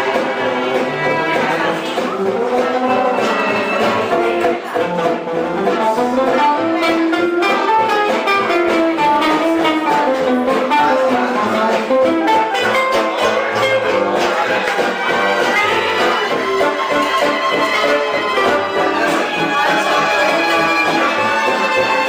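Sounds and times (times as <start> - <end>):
live band playing instrumental: 0.0 - 22.0.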